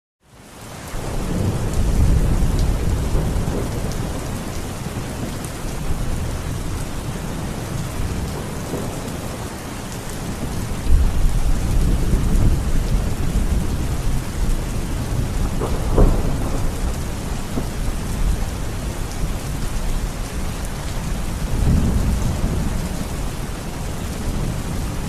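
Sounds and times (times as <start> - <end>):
heavy rain: 0.2 - 25.0
low rolling thunder: 1.0 - 25.0.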